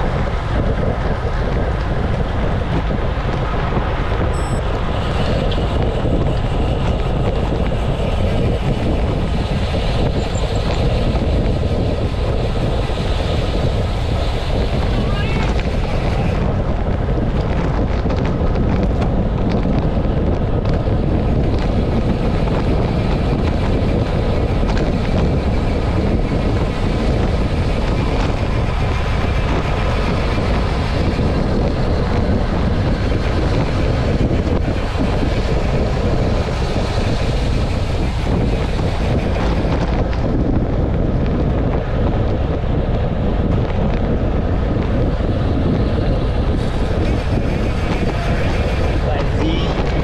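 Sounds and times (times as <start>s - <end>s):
wind rushing over microphone: 0.0s - 50.0s.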